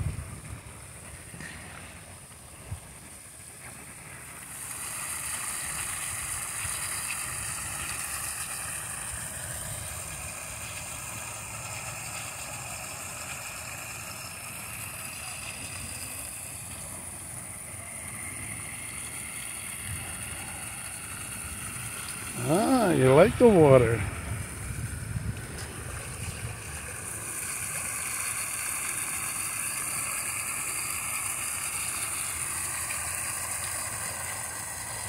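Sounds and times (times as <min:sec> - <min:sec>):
water gushing into plastic pool: 0:01.9 - 0:35.0.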